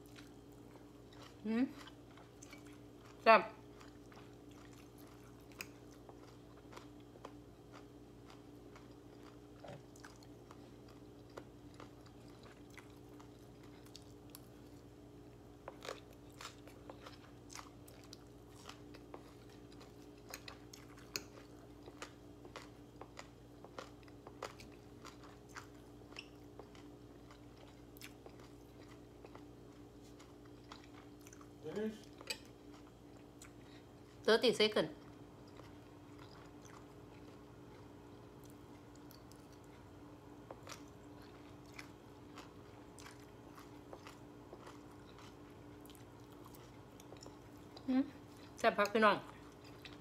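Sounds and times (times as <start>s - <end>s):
chewing and crunching food: 0.0s - 50.0s
steady low hum: 0.0s - 50.0s.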